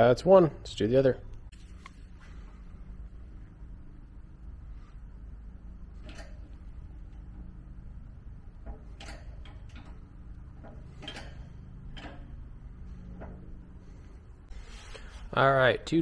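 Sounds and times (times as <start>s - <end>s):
low hum: 0.5s - 15.4s.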